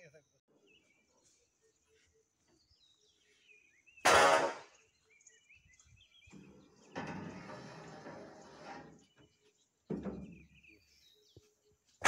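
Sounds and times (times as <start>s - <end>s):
small birds twittering: 0.0s - 12.0s.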